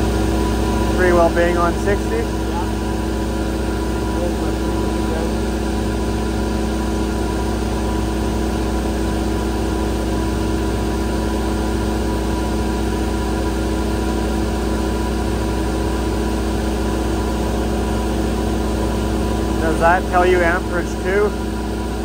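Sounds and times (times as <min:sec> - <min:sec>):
cooling fans rushing: 0:00.0 - 0:22.0
generator engine drone: 0:00.0 - 0:22.0.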